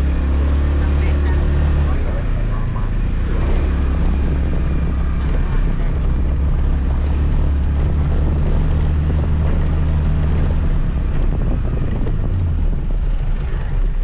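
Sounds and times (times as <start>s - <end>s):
scooter engine running: 0.0s - 14.0s
wind rushing over microphone: 0.0s - 14.0s.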